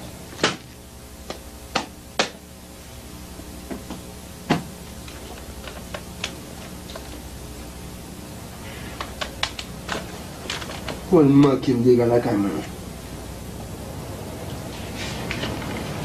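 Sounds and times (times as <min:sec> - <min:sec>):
tape hum and hiss: 0:00.0 - 0:16.0.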